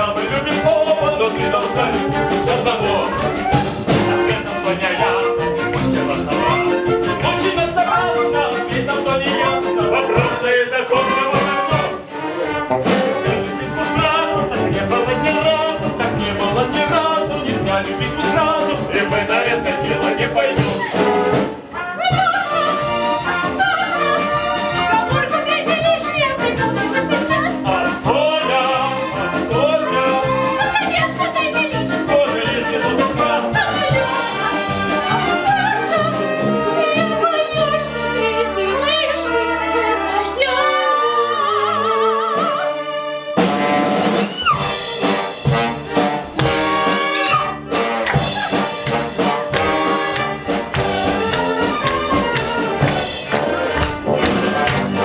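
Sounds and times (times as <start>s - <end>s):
brass-led band music: 0.0s - 55.0s.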